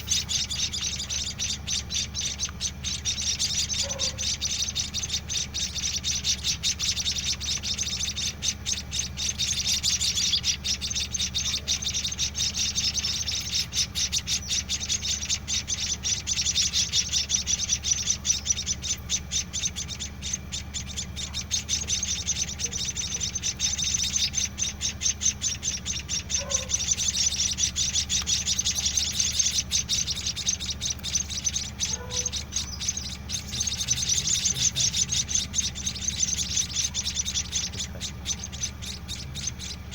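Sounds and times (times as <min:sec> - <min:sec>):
nestlings chirping: 0:00.0 - 0:39.9
steady low hum: 0:00.0 - 0:39.9.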